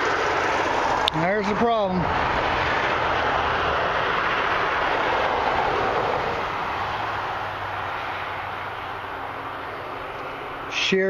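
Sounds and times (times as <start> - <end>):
highway traffic passing: 0.0 - 11.0.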